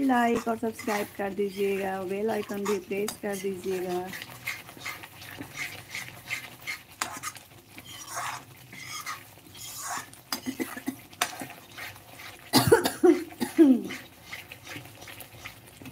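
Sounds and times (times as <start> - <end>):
metal spatula scraping pan: 0.0 - 15.9.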